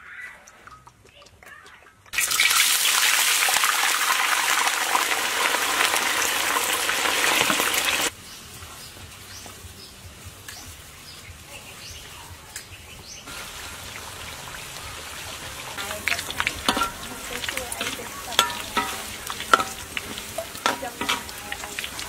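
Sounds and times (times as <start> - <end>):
food deep-frying in hot oil: 2.1 - 22.0.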